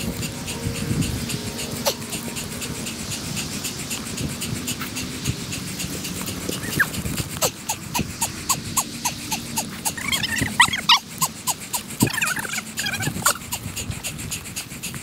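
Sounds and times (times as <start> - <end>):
person panting hard: 0.0 - 15.0.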